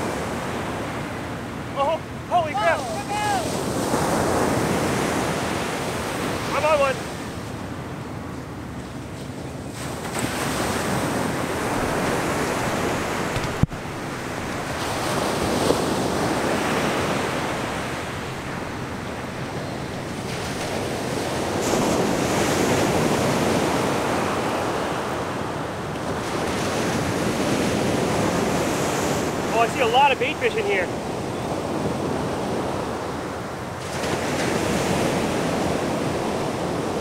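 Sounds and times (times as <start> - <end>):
surf breaking on beach: 0.0 - 7.5, 9.2 - 37.0.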